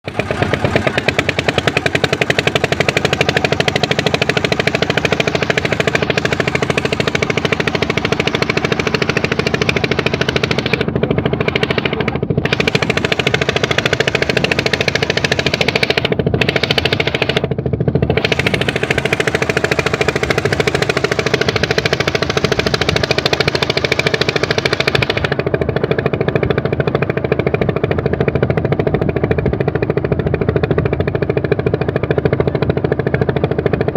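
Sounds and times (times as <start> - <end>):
boat engine chugging: 0.0 - 33.9.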